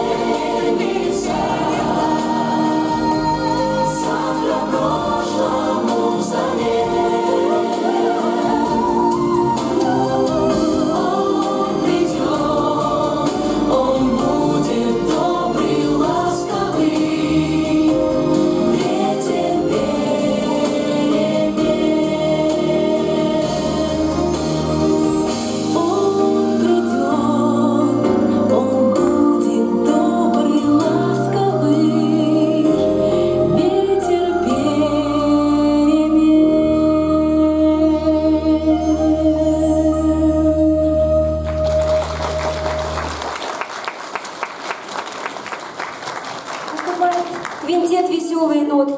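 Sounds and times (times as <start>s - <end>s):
instrumental backing with bass: 0.0s - 43.5s
children's choir singing: 0.0s - 43.8s.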